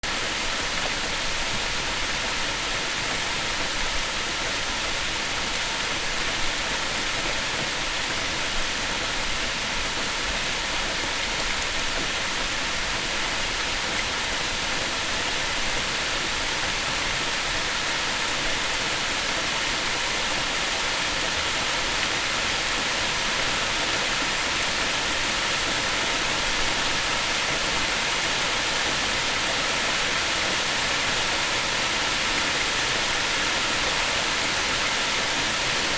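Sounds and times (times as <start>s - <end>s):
rain falling on leaves: 0.1s - 35.9s.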